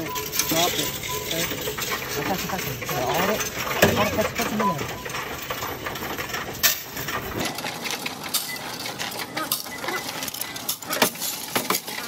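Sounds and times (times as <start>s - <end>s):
coins clattering in metal tray: 0.0s - 12.0s
counting machine rapid clicking: 0.0s - 12.0s.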